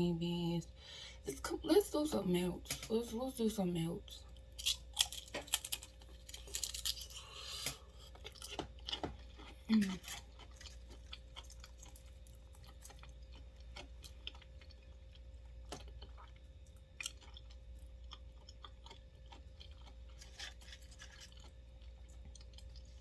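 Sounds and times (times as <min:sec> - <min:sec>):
person chewing crunchy chips: 0:04.3 - 0:23.0.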